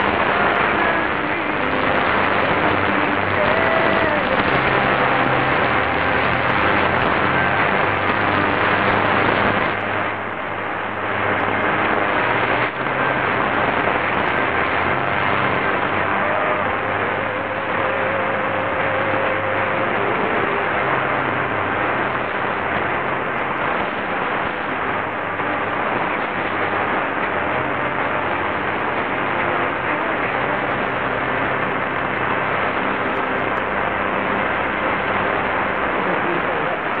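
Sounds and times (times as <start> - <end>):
faint hum: 0.0 - 37.0
radio static hiss: 0.0 - 37.0.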